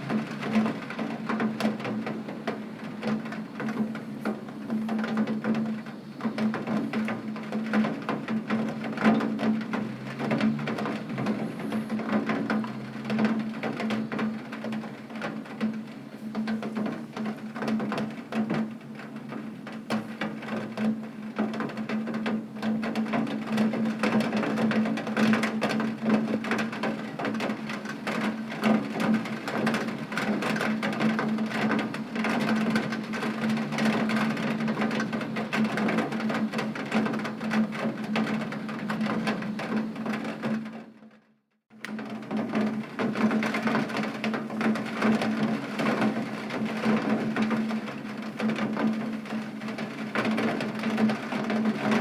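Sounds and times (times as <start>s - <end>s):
heavy rain on a window: 0.0s - 52.0s.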